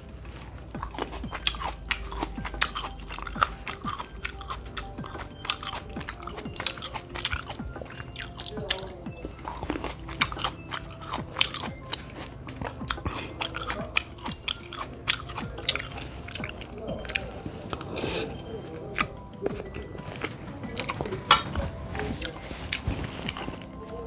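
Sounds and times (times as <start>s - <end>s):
wet chewing and smacking: 0.0s - 24.0s.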